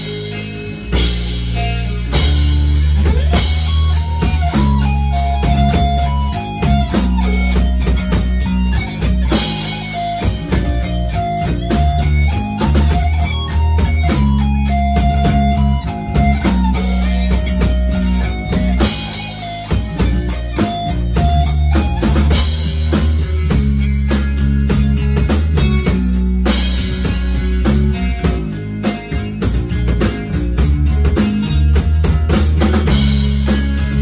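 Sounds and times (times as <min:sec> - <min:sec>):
bass guitar: 0:00.0 - 0:34.0
drum kit: 0:00.0 - 0:34.0
electric guitar: 0:00.0 - 0:34.0.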